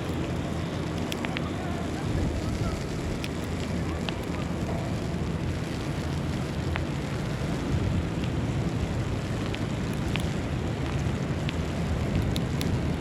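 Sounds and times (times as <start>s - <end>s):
faint ticks: 0.0s - 13.0s
low city rumble: 0.0s - 13.0s.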